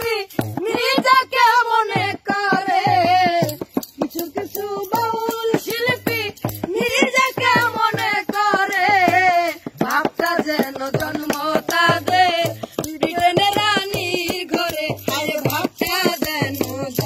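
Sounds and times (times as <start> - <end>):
woman singing folk song: 0.0 - 17.0.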